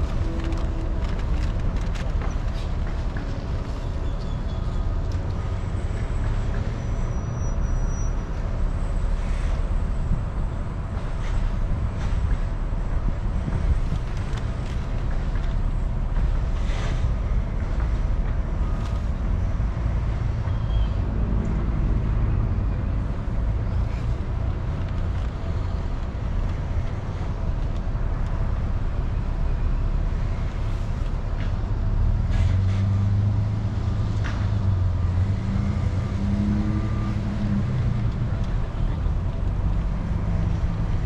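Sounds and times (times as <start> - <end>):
deeper engine hum: 0.0 - 7.2, 8.2 - 41.0.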